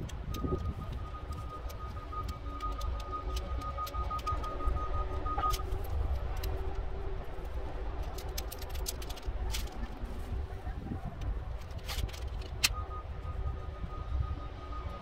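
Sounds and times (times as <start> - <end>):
tent poles clicking and rattling: 0.0 - 13.3
low rumble: 0.0 - 15.0.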